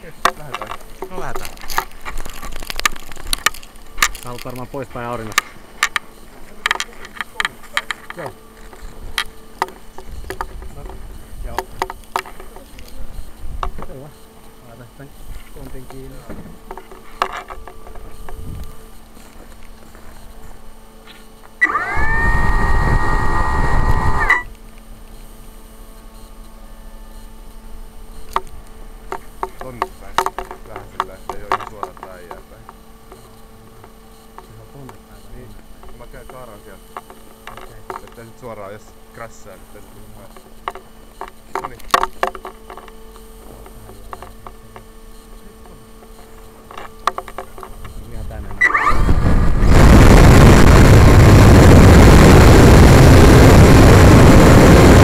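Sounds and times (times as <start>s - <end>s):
electric motor whine: 0.0s - 55.0s
faint electrical hum: 0.0s - 55.0s.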